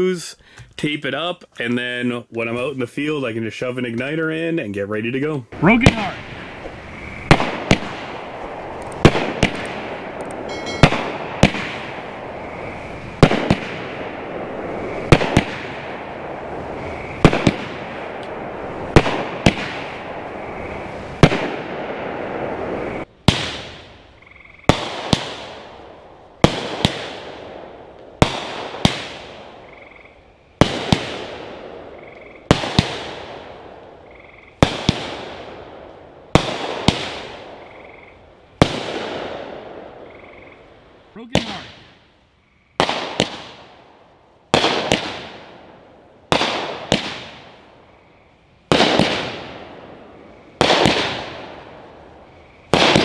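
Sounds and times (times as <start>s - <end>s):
fireworks bangs echoing: 5.6s - 29.7s, 30.5s - 37.8s, 38.6s - 40.1s, 41.2s - 42.1s, 42.8s - 47.9s, 48.6s - 53.0s.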